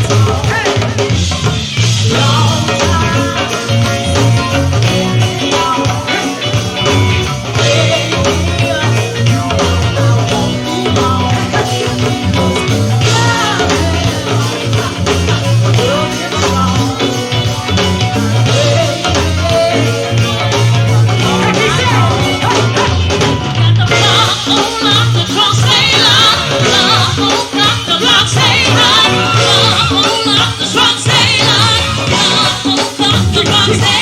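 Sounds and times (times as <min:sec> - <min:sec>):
bass beat: 0:00.0 - 0:34.0
guitar: 0:00.0 - 0:34.0
live band playing: 0:00.0 - 0:34.0
person singing: 0:02.0 - 0:34.0.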